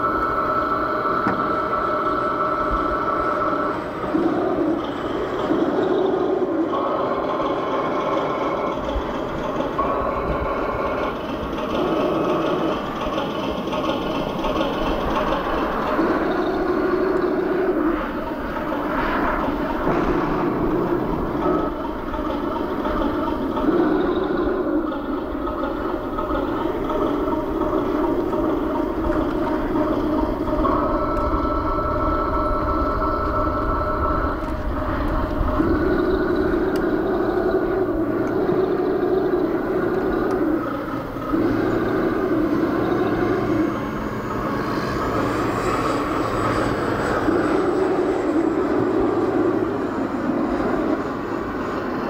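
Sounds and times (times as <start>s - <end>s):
model aircraft engines droning: 0.0s - 52.0s.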